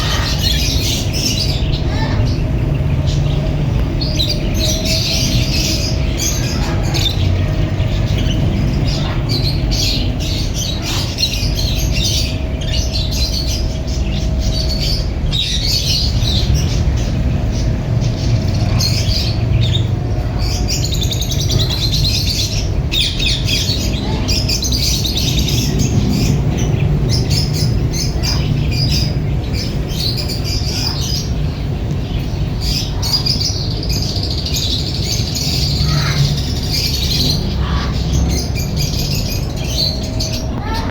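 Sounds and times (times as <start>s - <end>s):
low rumble: 0.0s - 40.9s
parakeets chirping and squawking: 0.0s - 40.9s.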